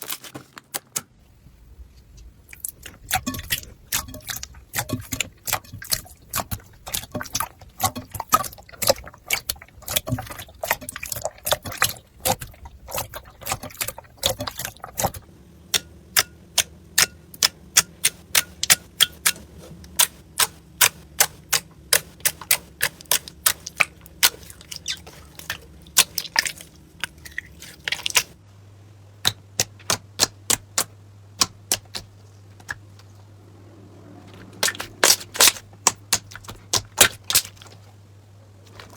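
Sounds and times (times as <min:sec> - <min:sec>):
slime crackling and popping: 0:02.5 - 0:28.4, 0:29.2 - 0:32.8, 0:34.6 - 0:37.8.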